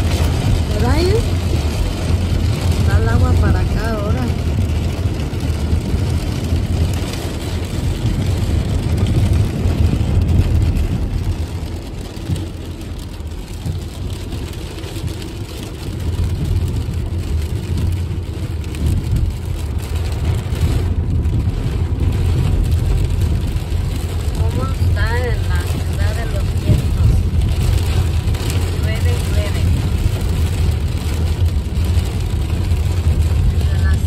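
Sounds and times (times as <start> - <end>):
car engine and road noise: 0.0 - 34.0
heavy rain on car: 0.0 - 34.0.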